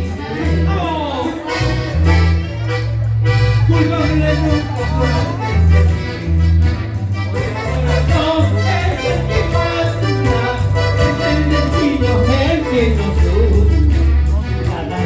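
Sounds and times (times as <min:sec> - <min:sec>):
latin band instrumental music: 0:00.0 - 0:15.0.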